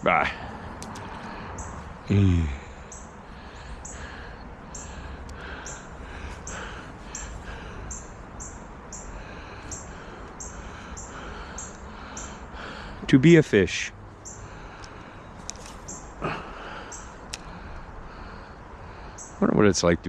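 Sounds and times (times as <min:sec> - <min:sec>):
bird calling: 0:00.0 - 0:19.6.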